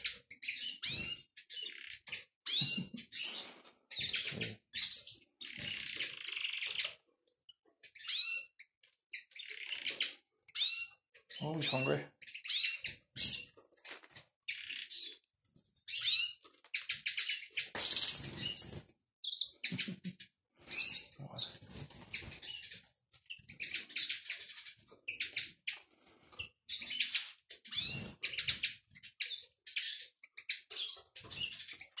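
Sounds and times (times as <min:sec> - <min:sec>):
birds chirping and twittering: 0:00.0 - 0:32.0.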